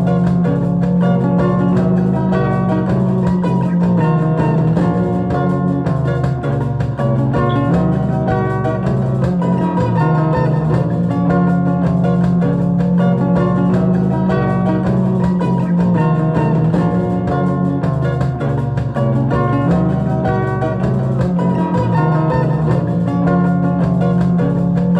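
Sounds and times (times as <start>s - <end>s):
plucked guitar: 0.0s - 24.9s
steady bass: 0.0s - 24.9s.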